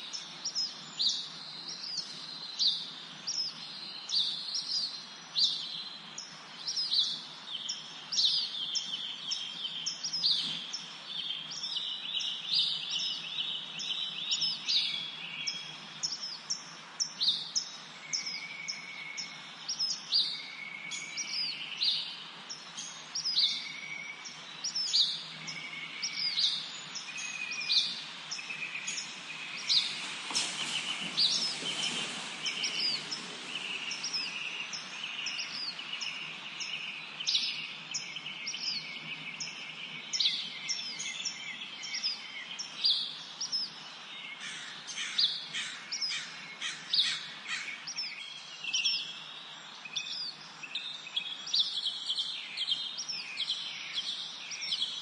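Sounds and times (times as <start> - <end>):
faint background hiss: 0.0 - 55.0
songbirds chirping: 0.0 - 55.0.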